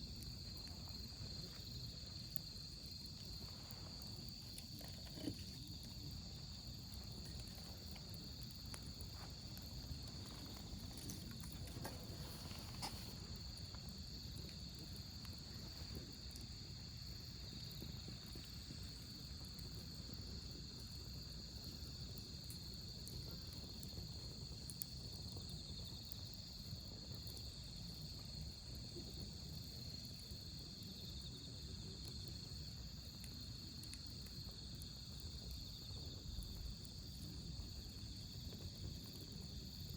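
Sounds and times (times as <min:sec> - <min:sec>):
campfire hissing and crackling: 0:00.0 - 0:39.9
crickets trilling: 0:00.0 - 0:39.9.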